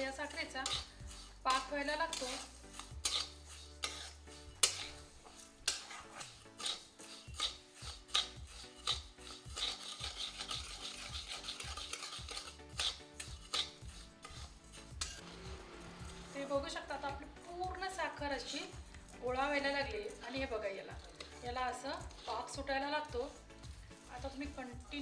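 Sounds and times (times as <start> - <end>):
metal spatula scraping sugar in pan: 0.0 - 25.0.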